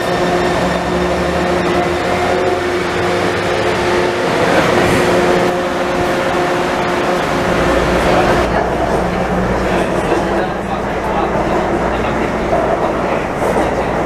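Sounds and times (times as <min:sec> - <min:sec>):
wheels rumbling on rails: 0:00.0 - 0:14.0.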